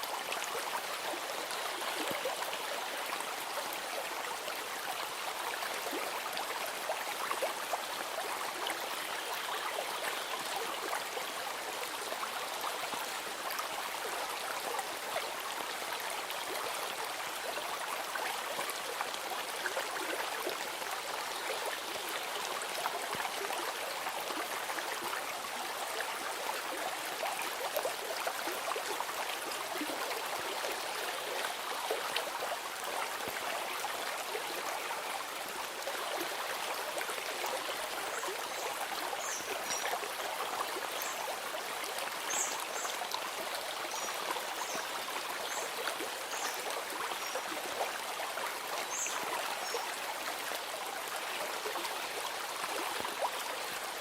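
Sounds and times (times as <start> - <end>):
stream of water flowing: 0.0 - 54.0.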